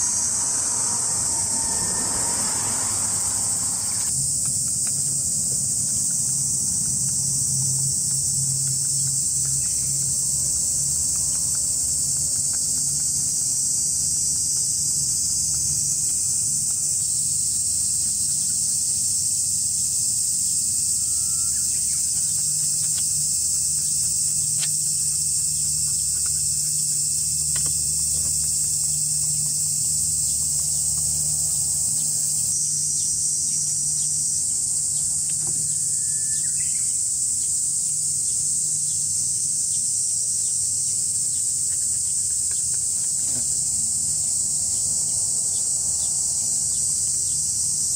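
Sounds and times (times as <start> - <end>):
cicadas chorus: 0.0 - 47.9
distant engine hum: 0.0 - 47.9.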